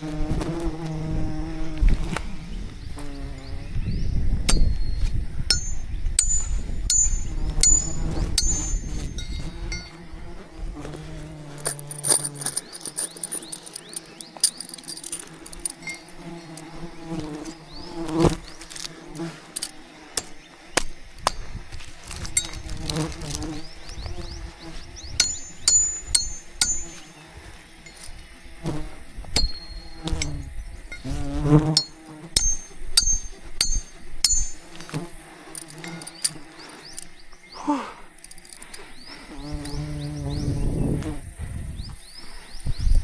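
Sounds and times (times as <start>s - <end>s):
bees buzzing: 0.0s - 3.9s, 4.5s - 42.5s.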